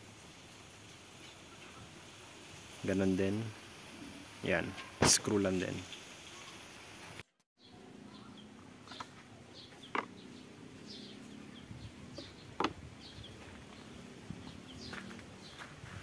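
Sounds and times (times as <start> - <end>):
small birds chirping: 0.6 - 16.0.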